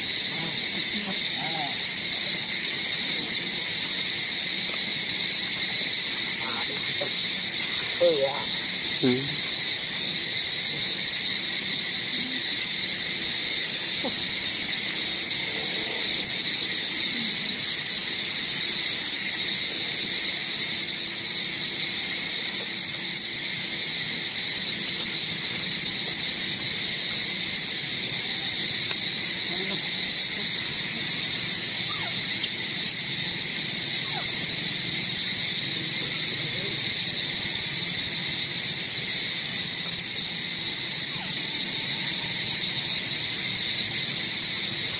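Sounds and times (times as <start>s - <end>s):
insect chorus high drone: 0.0s - 44.9s.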